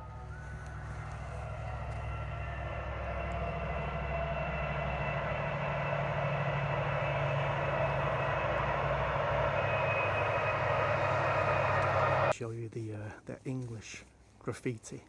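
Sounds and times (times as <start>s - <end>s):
engine drone with whining tones: 0.0s - 12.3s.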